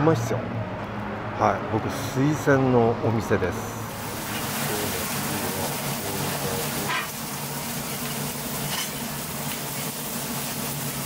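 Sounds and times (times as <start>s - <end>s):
hiss of passing traffic: 0.0s - 11.0s
low hum of engines: 0.0s - 11.0s.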